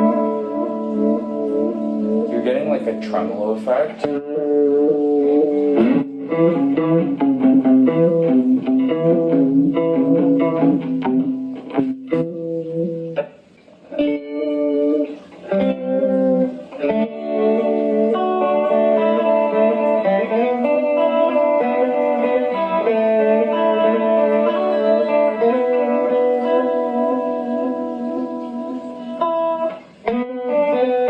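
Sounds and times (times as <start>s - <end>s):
wavering electric guitar chords: 0.0s - 31.0s.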